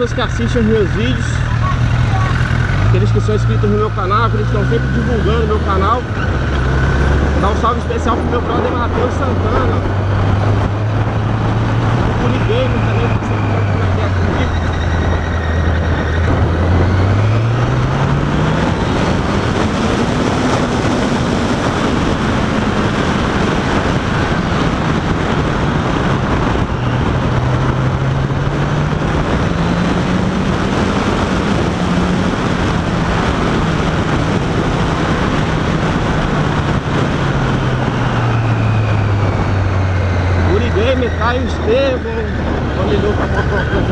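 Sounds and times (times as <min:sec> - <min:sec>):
motorcycle engine: 0:00.0 - 0:43.9
wind and road noise: 0:00.0 - 0:43.9.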